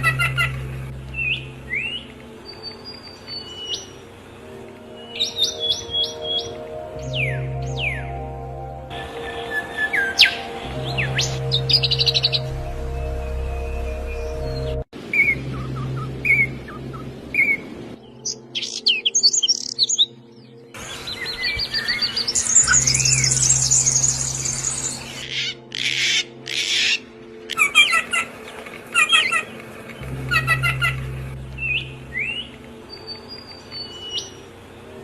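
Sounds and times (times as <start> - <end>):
small birds chirping and trilling: 0.0 - 8.3, 8.9 - 35.0
low steady drone: 0.0 - 18.6, 20.1 - 27.5, 29.5 - 35.0.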